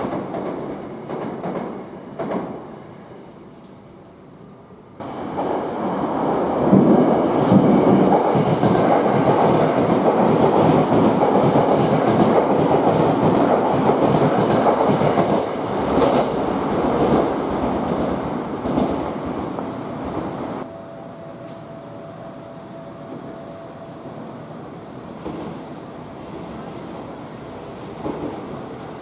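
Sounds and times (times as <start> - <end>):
train wheels rumbling on rails: 0.0 - 2.8, 5.0 - 20.7, 22.6 - 29.0.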